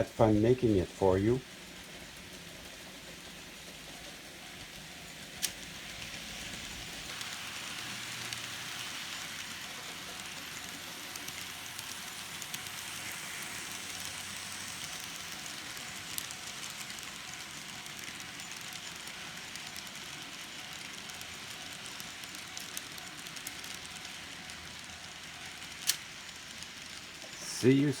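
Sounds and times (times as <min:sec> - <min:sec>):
model train motor whirring: 0:00.0 - 0:28.0.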